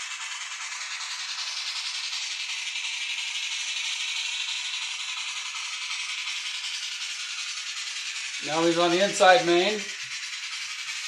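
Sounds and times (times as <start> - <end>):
model locomotive chuffing from tiny speaker: 0.0 - 11.0.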